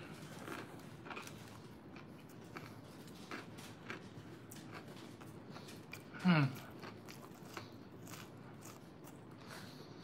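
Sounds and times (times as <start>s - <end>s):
chewing with crisp crunches: 0.0s - 10.0s.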